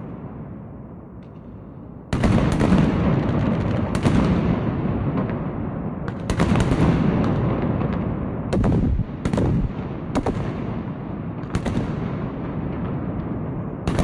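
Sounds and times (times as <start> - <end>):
distant fireworks bangs: 2.1 - 14.0
fireworks bursting: 2.1 - 14.0.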